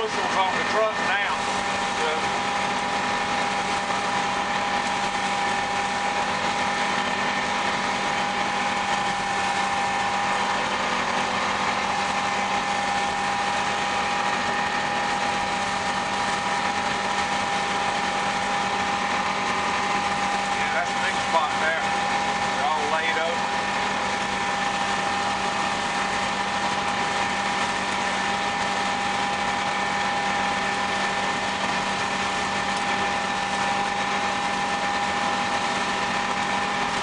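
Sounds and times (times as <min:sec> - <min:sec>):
combine harvester droning: 0:00.0 - 0:37.0.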